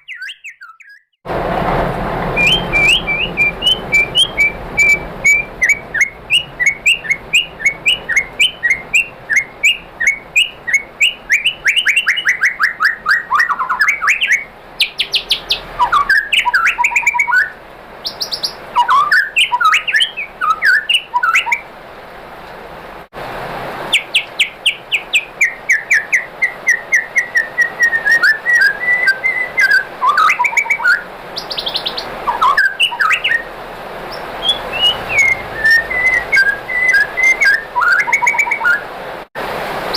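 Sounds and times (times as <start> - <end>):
bird singing chirps and trills: 0.0 - 1.2, 2.3 - 21.6, 23.9 - 38.9.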